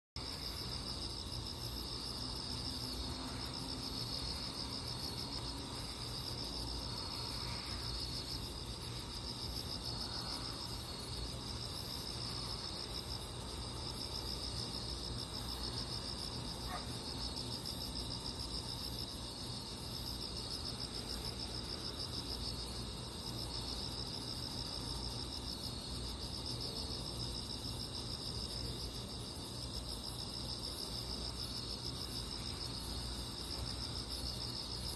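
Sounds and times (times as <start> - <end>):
crickets chirping: 0.2 - 34.9
high pulsing insect call: 0.2 - 34.9.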